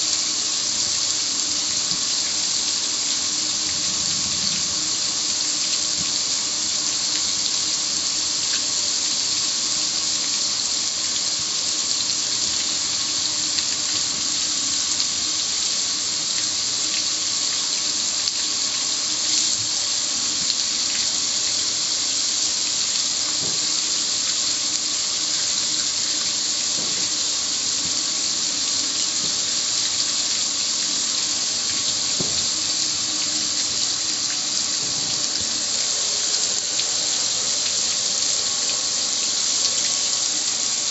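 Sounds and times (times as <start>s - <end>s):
hose spraying onto metal grill: 0.0s - 40.9s.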